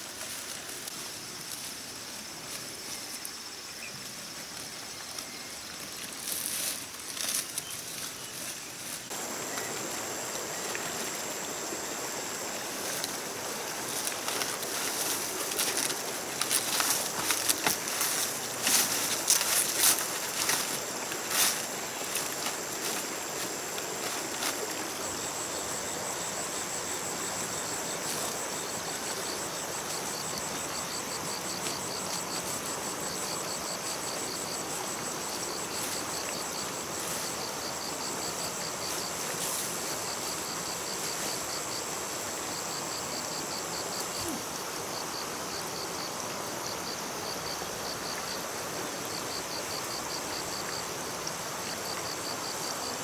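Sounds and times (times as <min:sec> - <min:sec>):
background hiss: 0:00.0 - 0:53.0
insects trilling: 0:00.0 - 0:53.0.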